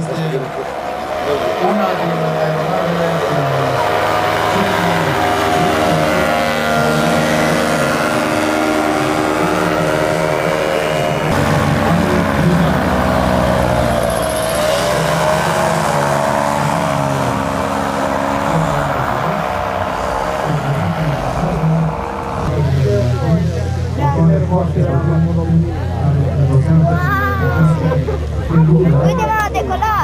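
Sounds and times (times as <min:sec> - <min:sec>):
paramotor engine and propeller: 0:00.0 - 0:30.0.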